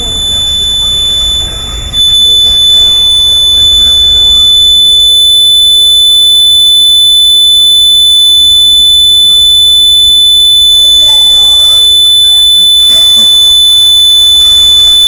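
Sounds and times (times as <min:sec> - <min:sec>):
high-pitched electronic tone: 0:00.0 - 0:15.0.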